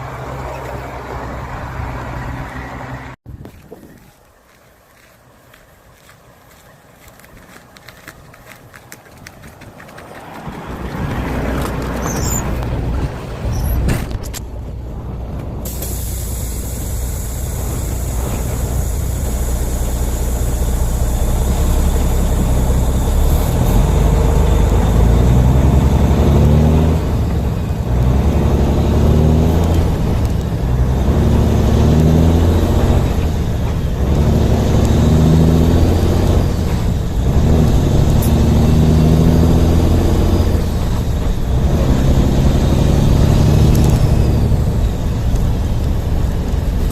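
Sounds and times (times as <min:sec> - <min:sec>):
truck diesel engine accelerating: 0:00.0 - 0:03.2, 0:06.5 - 0:46.9
engine note shifting gears: 0:06.1 - 0:46.9.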